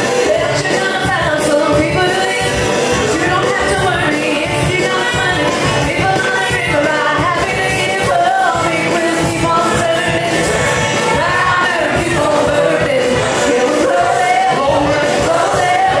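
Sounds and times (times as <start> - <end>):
pop song with singer: 0.0 - 16.0.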